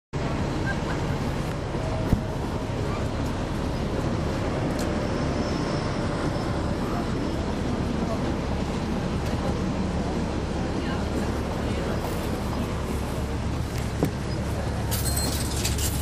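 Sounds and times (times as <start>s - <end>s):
bus diesel engine rumbling: 0.2s - 16.0s.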